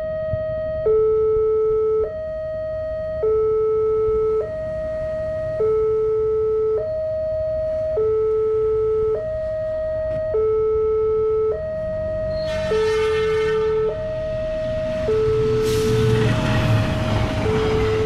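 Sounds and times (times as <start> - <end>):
two-tone crossing alarm: 0.0 - 18.0.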